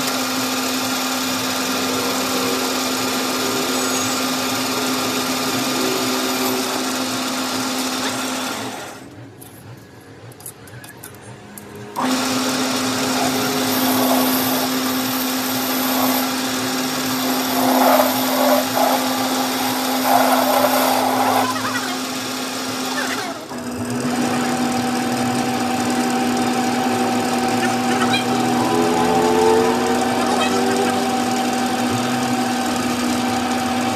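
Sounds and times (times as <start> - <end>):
machine motor humming: 0.0 - 9.2, 11.4 - 33.9.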